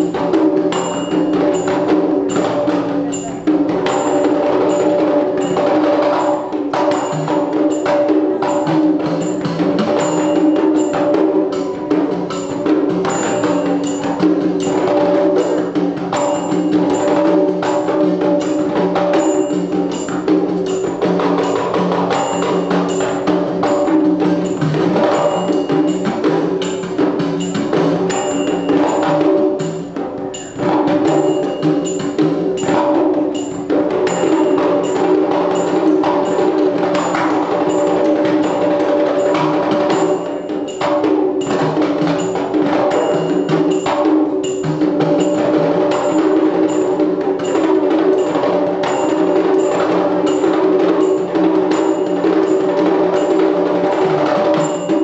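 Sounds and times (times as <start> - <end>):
pot drums playing: 0.0 - 55.0.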